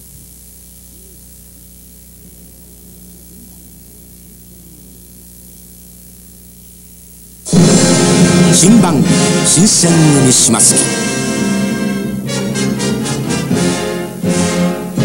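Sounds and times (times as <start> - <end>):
mains hum: 0.0 - 15.0
tape hiss: 0.0 - 15.0.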